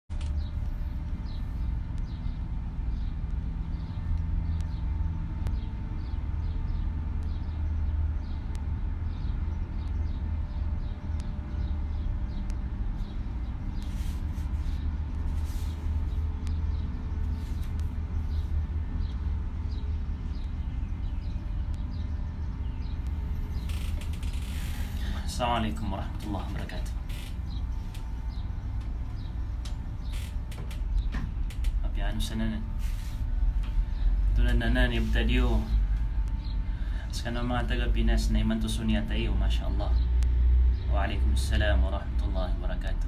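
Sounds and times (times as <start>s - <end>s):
low background rumble: 0.1s - 43.0s.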